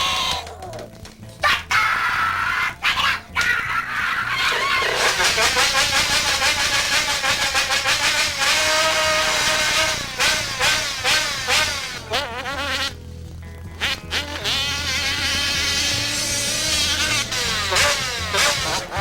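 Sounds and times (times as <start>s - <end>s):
small motorcycle engine revving: 3.3s - 19.0s.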